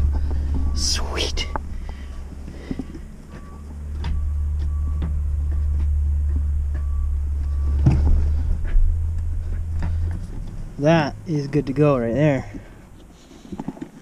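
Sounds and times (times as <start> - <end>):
faint reversing beeps: 0.0 - 11.7
low engine rumble: 0.0 - 14.0.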